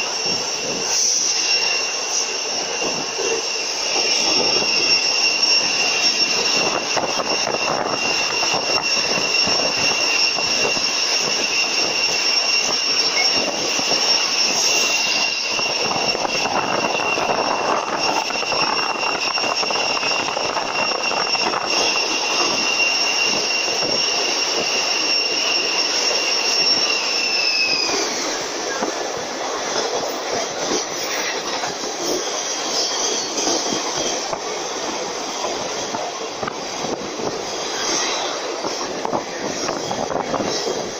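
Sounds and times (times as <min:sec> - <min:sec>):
high whine: 0:00.0 - 0:40.9
train rushing rumble: 0:00.0 - 0:40.9.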